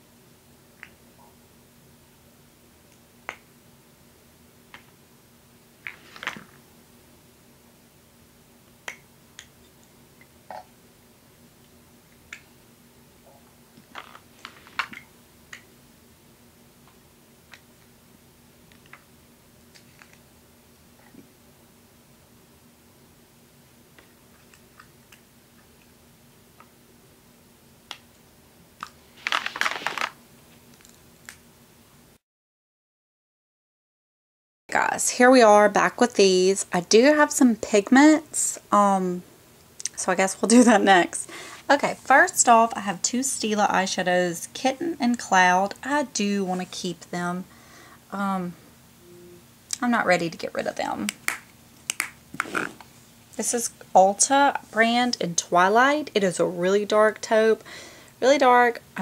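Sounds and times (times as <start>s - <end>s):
faint room hum: 0.0s - 32.2s, 34.7s - 59.0s.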